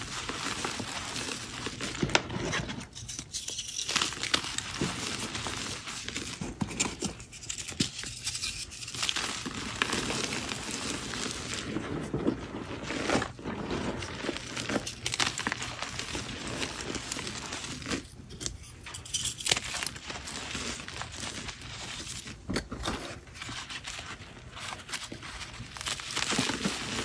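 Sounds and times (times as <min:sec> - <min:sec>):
hands crumbling chalk: 0:00.1 - 0:27.0.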